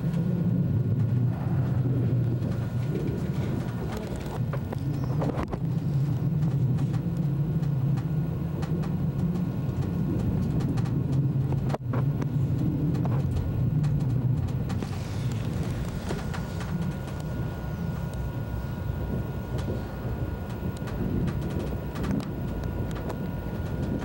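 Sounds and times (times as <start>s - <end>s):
high-speed train rumbling: 0.0s - 24.0s.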